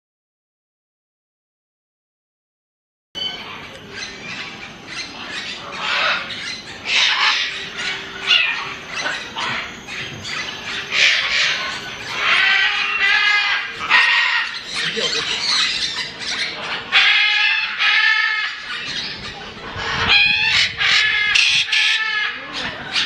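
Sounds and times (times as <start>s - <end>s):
parrots squawking: 3.2s - 23.0s.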